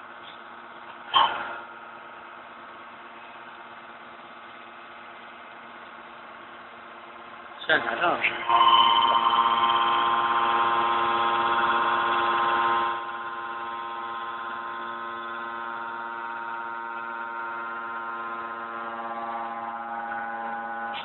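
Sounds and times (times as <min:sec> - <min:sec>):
machine high-pitched whine: 0:00.0 - 0:21.0.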